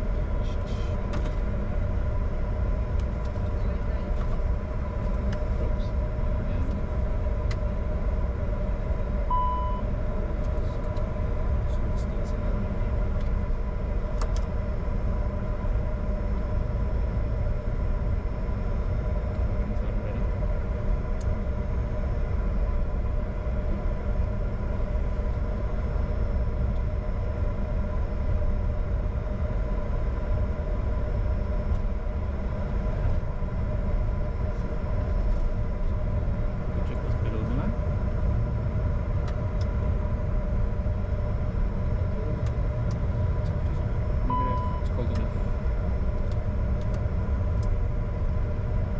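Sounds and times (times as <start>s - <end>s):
jet engines idling: 0.0s - 48.9s.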